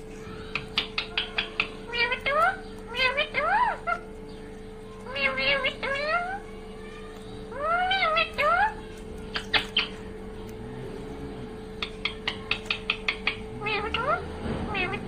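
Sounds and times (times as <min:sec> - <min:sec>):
parakeet calling: 0:00.0 - 0:15.0
steady hum: 0:00.0 - 0:15.0.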